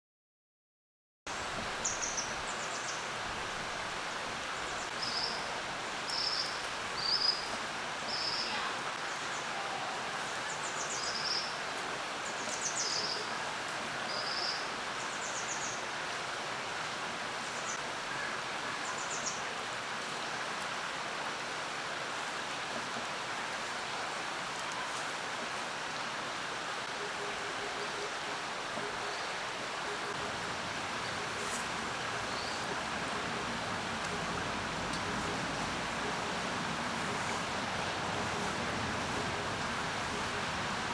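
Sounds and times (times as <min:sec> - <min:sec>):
stream rushing: 0:01.3 - 0:40.9.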